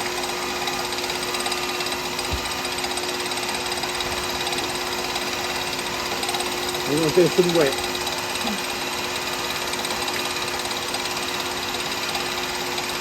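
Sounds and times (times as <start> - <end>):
wood lathe motor hum and rattle: 0.0 - 13.0.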